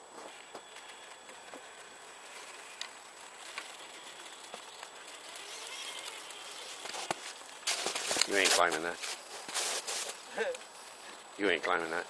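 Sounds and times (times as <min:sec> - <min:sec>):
toy truck crunching through snow: 0:00.3 - 0:10.3.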